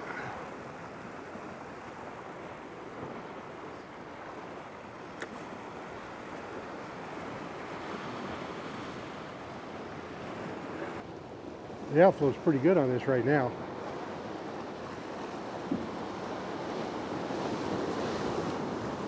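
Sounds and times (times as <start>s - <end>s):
ocean surf washing against rocks: 0.0s - 19.0s.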